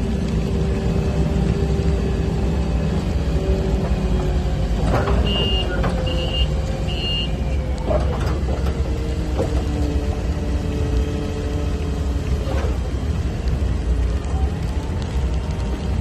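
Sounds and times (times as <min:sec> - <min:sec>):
heavy vehicle engine rumble: 0:00.0 - 0:16.0.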